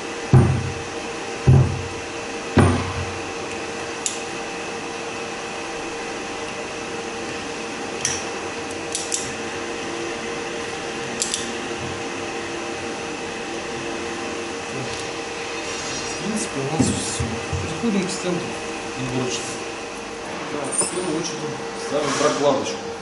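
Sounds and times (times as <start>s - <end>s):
workshop hum: 0.0s - 23.0s.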